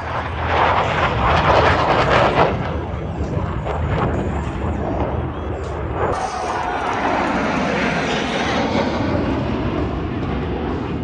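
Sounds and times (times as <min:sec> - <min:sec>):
jet fighters passing: 0:00.0 - 0:11.0.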